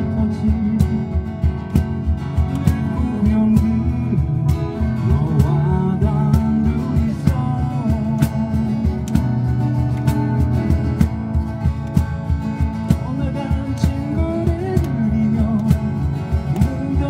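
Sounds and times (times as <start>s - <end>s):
acoustic guitars: 0.0s - 17.0s
cajon beat: 0.0s - 17.0s.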